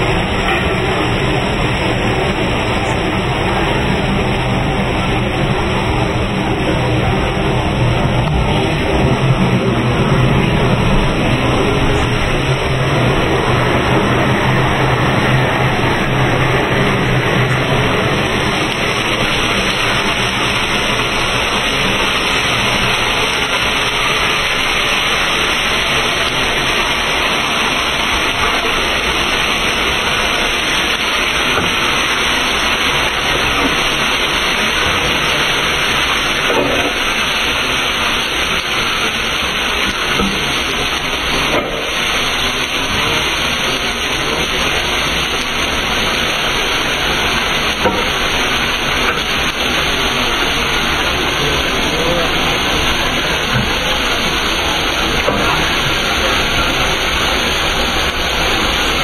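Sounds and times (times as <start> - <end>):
chicken frying in a wok: 0.0 - 59.0.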